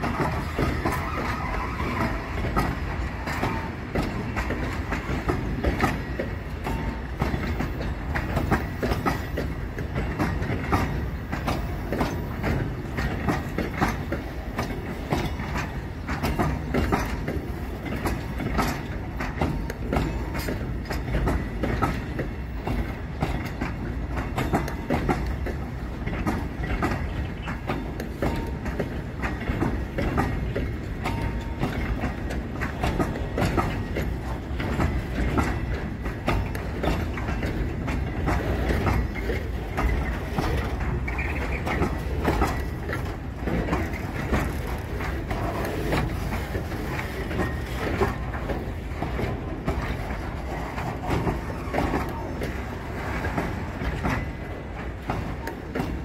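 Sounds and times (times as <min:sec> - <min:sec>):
clickety-clack over rail joints: 0:00.0 - 0:56.0
steel wheels rumbling on rail: 0:00.0 - 0:56.0.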